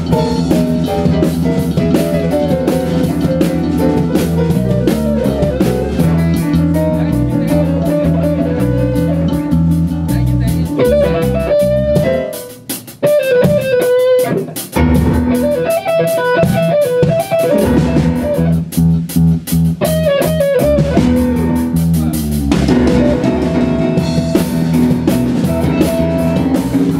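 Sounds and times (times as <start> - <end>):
bass guitar: 0.0 - 26.9
drum kit: 0.0 - 26.9
electric guitar melody: 0.0 - 26.9
rock band playing: 0.0 - 26.9.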